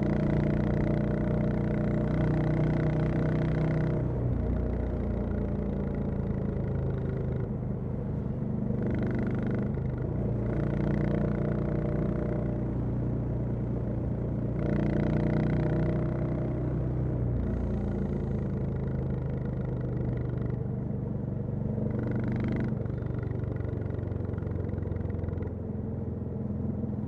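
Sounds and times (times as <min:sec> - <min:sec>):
motorcycle engine revving: 0:00.0 - 0:12.9, 0:13.5 - 0:20.8, 0:21.6 - 0:25.6.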